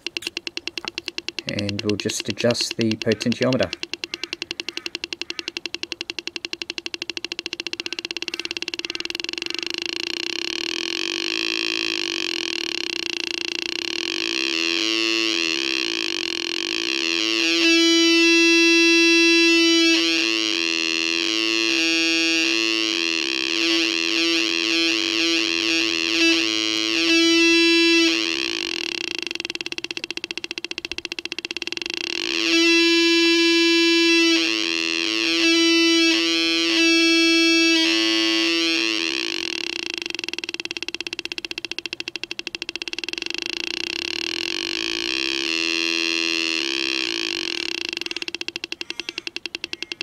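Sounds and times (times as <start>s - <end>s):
warbling electronic buzzing tone: 0.0s - 50.0s.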